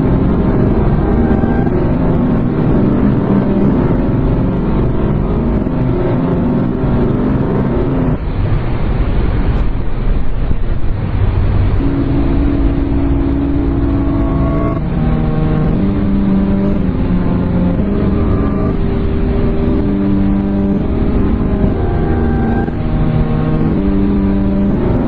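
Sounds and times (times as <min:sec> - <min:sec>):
low alarm tones: 0:00.0 - 0:08.2, 0:11.8 - 0:25.0
rough rumble: 0:00.0 - 0:25.0.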